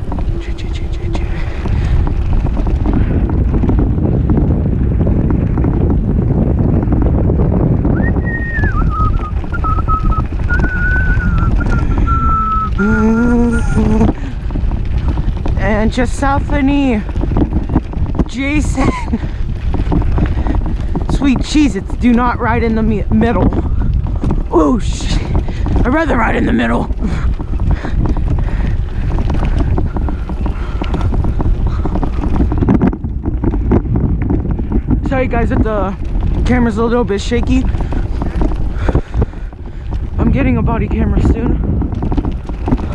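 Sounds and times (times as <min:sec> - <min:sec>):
bicycle rattles and knocks: 0:00.0 - 0:42.9
wind buffeting microphone: 0:00.0 - 0:42.9.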